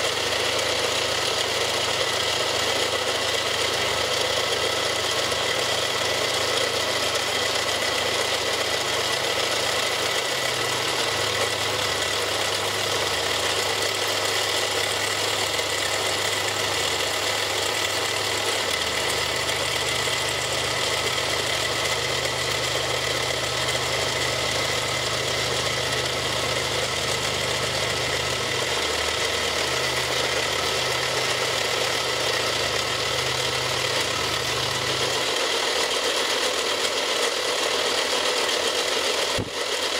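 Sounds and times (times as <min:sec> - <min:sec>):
milling machine cutting plastic: 0:00.0 - 0:39.9.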